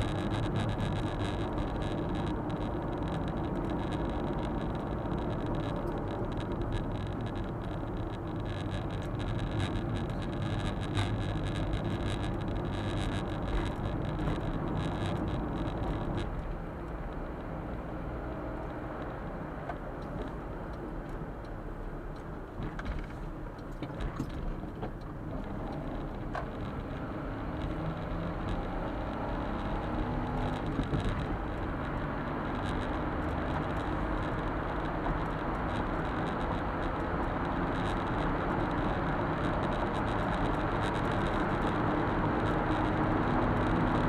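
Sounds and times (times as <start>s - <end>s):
road and tyre noise: 0.0s - 44.0s.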